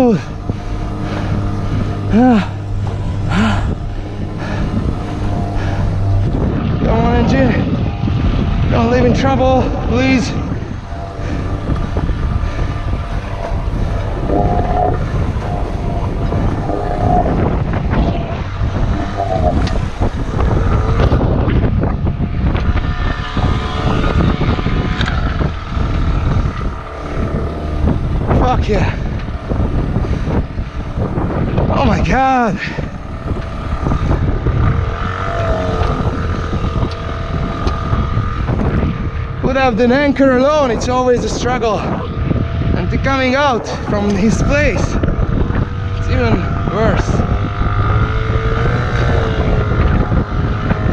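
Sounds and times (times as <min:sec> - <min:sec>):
boat engine running: 0:00.0 - 0:50.9
whining tone: 0:00.0 - 0:50.9
wind buffeting microphone: 0:00.0 - 0:50.9.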